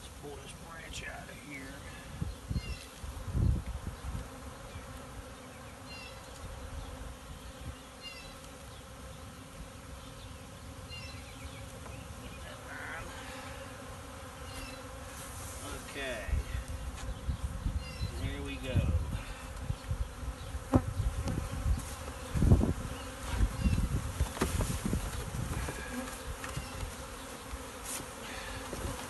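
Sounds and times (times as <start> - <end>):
bees buzzing: 0.2 - 29.0.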